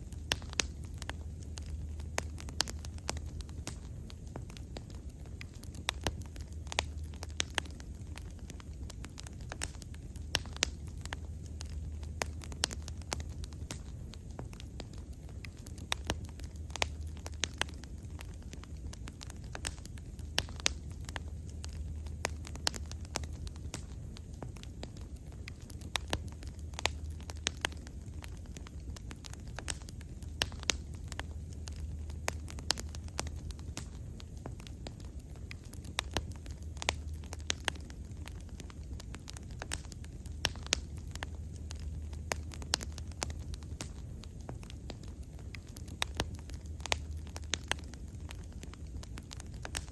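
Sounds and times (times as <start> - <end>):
low rumble of flames: 0.0 - 49.9
wood crackling and popping: 0.0 - 49.9.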